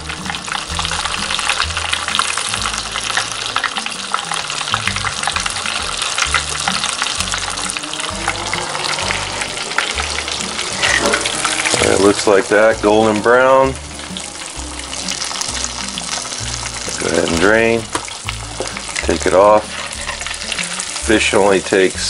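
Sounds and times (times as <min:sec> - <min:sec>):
deep frying oil sizzling: 0:00.0 - 0:22.0.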